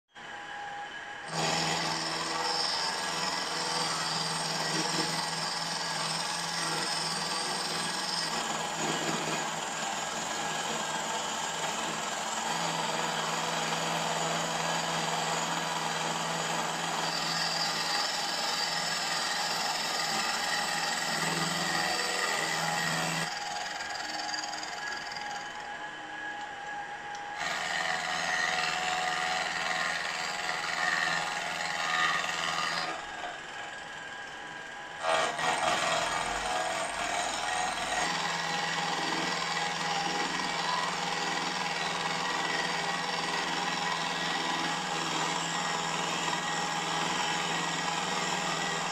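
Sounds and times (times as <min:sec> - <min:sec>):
milling cutter cutting metal: 0:01.3 - 0:48.9.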